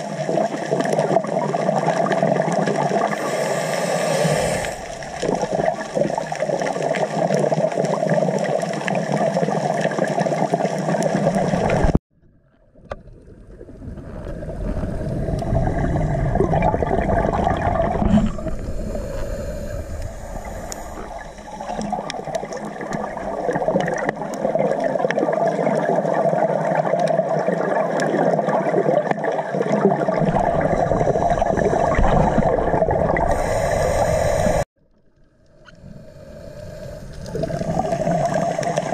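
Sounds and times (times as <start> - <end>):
underwater rushing and bubbling: 0.0 - 38.9.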